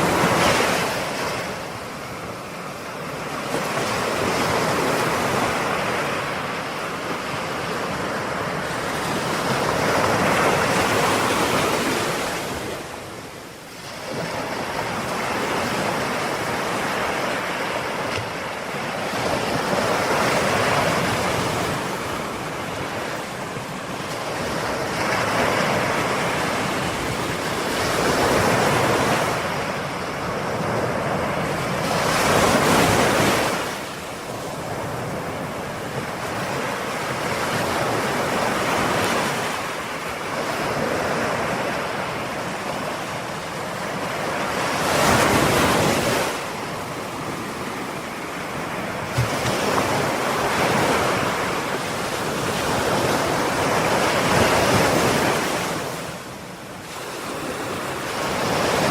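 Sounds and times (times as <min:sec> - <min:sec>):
ocean waves breaking on shore: 0:00.0 - 0:58.9
wind on microphone: 0:00.0 - 0:58.9.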